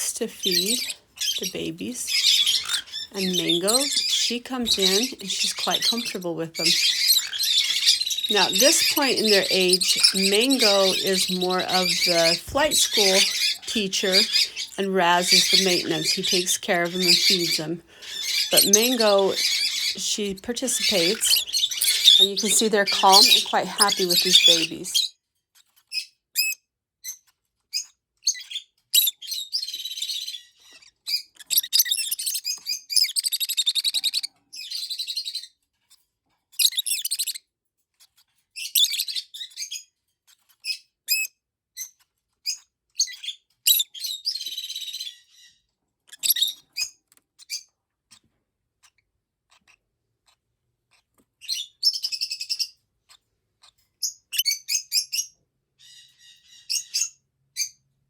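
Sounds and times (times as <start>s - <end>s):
lovebirds chirping and chattering: 0.0s - 25.2s, 28.3s - 35.5s, 36.6s - 37.4s, 38.0s - 39.8s, 43.0s - 48.3s, 49.6s - 57.8s.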